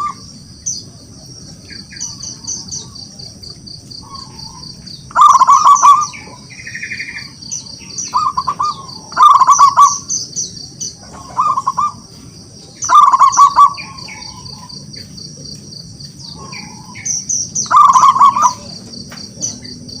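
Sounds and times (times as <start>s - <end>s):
dove cooing: 0.0s - 20.0s
insects chirring: 0.0s - 20.0s.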